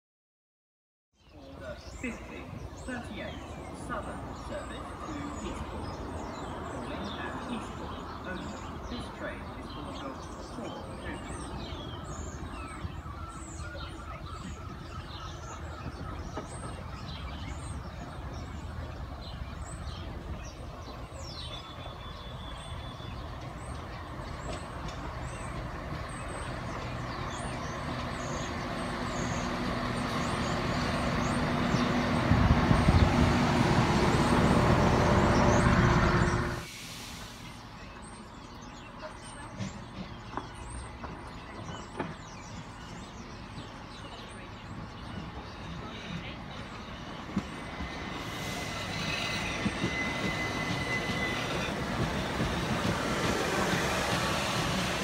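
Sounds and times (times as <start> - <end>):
birds chirping: 1.2 - 55.0
diesel train engine humming: 1.4 - 55.0
train wheel rumble: 1.5 - 55.0.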